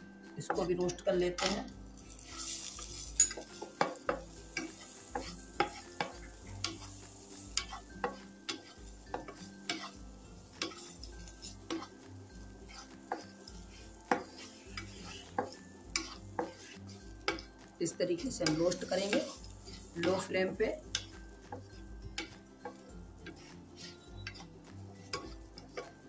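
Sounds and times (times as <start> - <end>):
utensil knocking and scraping pan: 0.5 - 17.6, 18.2 - 26.0
faint sizzle: 1.4 - 26.0.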